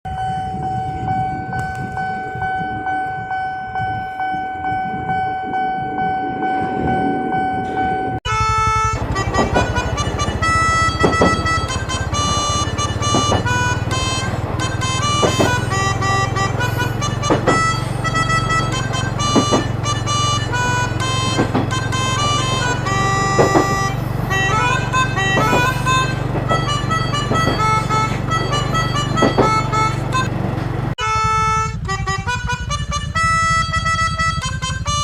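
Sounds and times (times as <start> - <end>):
low rumble: 0.1 - 29.0
bus horn playing a tune: 0.1 - 35.0
level crossing alarm tone: 0.1 - 35.0.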